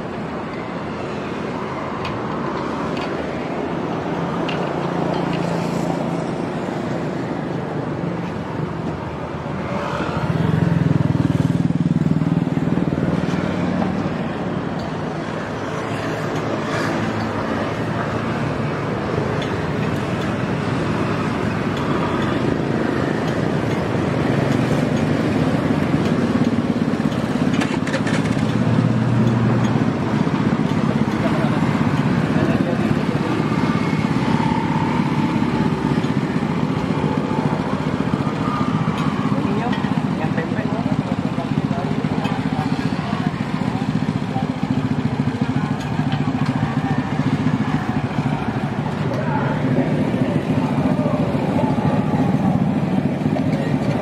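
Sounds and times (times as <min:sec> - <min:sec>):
passing traffic hum: 0:00.0 - 0:54.0.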